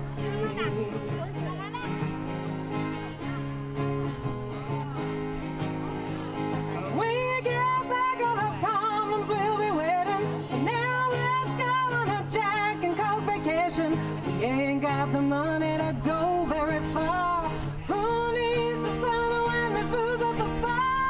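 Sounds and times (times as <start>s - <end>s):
acoustic guitar and bass: 0.0s - 21.0s.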